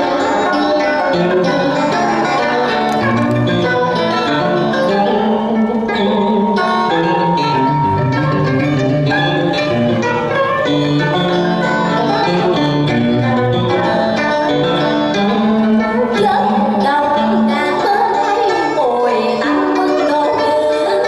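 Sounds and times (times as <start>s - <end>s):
plucked string instruments: 0.0s - 21.0s.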